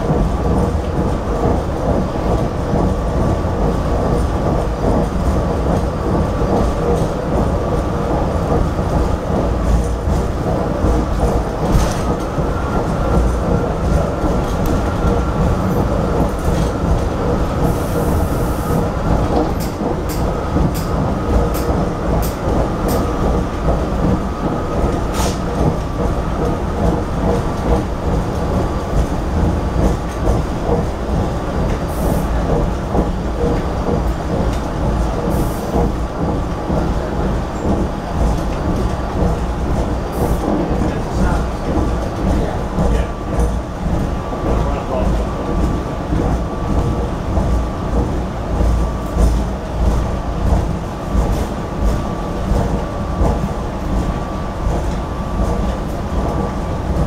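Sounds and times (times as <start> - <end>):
train wheels rumbling on rail: 0.0 - 57.0
clicks and clacks: 8.4 - 17.6, 18.7 - 57.0.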